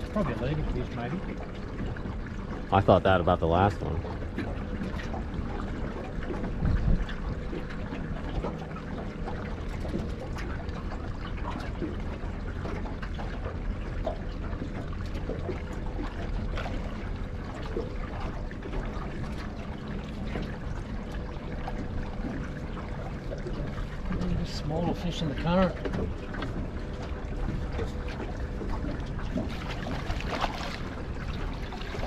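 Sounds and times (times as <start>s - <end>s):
water lapping against boat hull: 0.0s - 32.0s.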